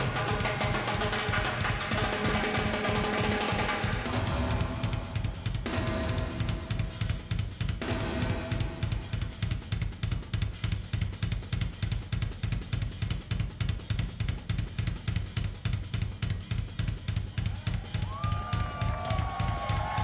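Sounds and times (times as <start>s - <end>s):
drum kit solo: 0.0s - 20.0s.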